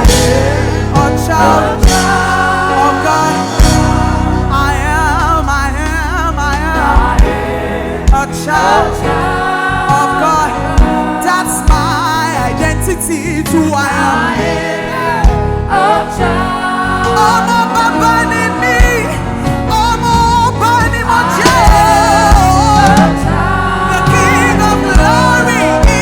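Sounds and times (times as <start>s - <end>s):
live band with bass and drums: 0.0s - 26.0s
person singing with vibrato: 0.0s - 26.0s.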